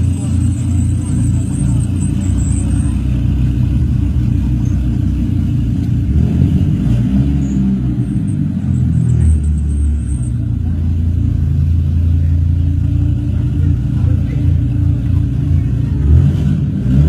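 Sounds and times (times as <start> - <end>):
car engine and exhaust running: 0.0 - 17.0.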